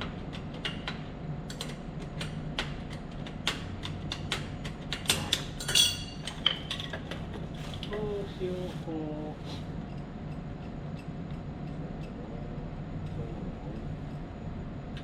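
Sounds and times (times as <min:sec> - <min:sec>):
machine-room hum: 0:00.0 - 0:15.0.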